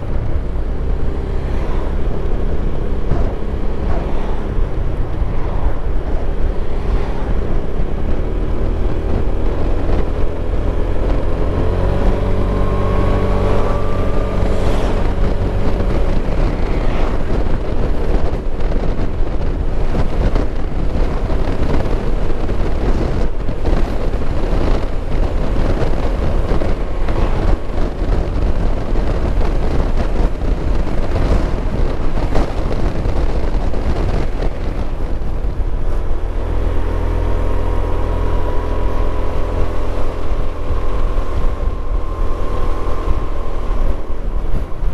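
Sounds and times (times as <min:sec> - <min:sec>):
wind buffeting microphone: 0:00.0 - 0:44.9
motorcycle engine running: 0:01.9 - 0:44.9.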